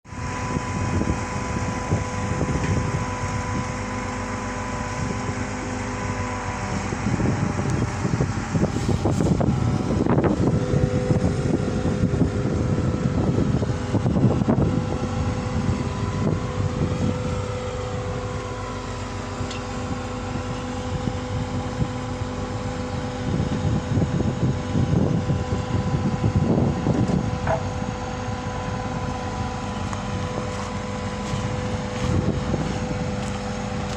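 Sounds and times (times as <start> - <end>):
diesel engine humming: 0.0 - 33.9
low rumbling gusts: 0.1 - 33.9.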